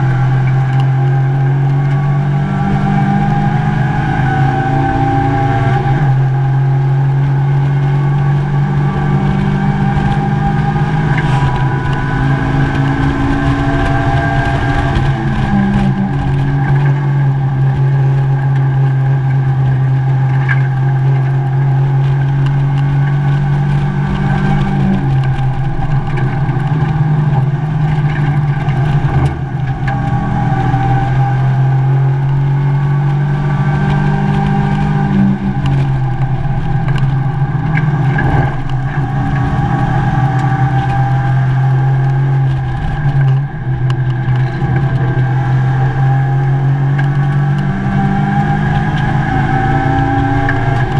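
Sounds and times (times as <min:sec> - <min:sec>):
race car engine running hard: 0:00.0 - 0:50.9.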